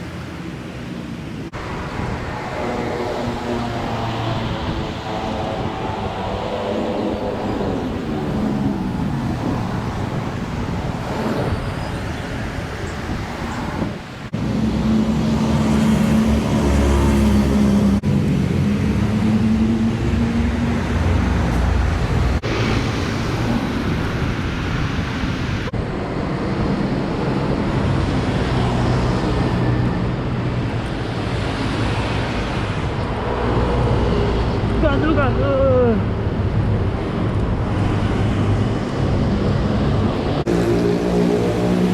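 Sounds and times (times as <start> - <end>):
cars and motorbikes driving past: 0.0 - 41.9
engine hum: 0.0 - 41.9.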